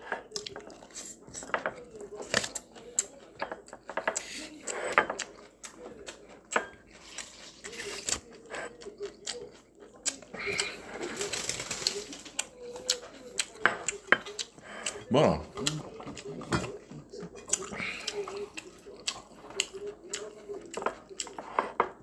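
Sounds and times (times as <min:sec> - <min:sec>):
person chewing: 0:00.0 - 0:21.8.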